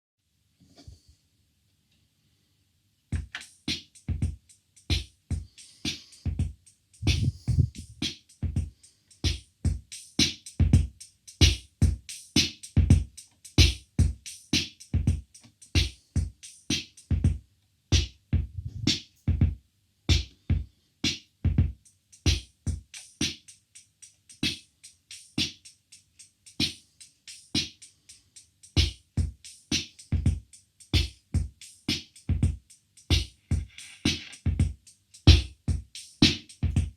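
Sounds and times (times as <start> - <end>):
drum machine beat: 3.2 - 36.9.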